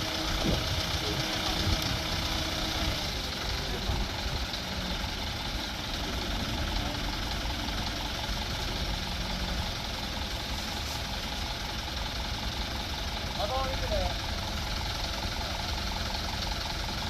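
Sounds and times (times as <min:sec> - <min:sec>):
vehicle engine rumble and hiss: 0:00.0 - 0:17.0.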